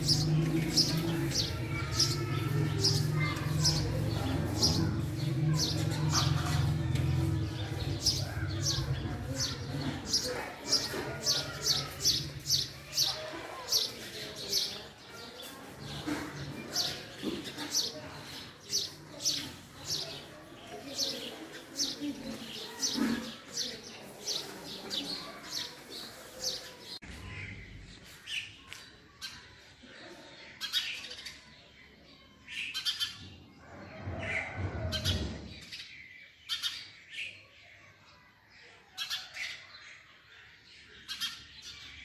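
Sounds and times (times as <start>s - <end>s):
small birds chirping rapidly: 0.0s - 42.0s.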